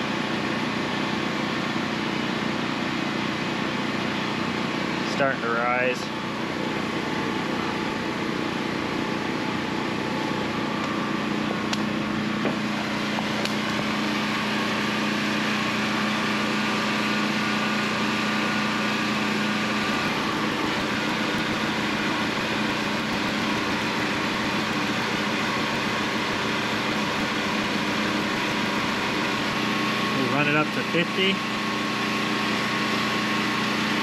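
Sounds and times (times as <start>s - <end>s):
air compressor running: 0.0s - 34.0s.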